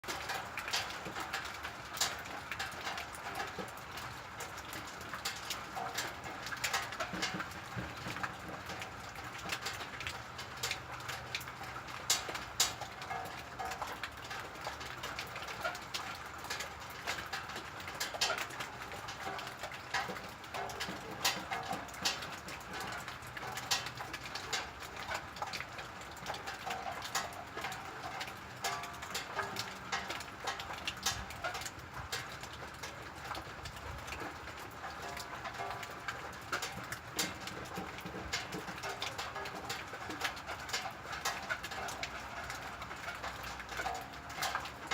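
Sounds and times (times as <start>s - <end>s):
raindrops ticking on metal sheeting: 0.0s - 44.9s
steady rain: 0.0s - 44.9s.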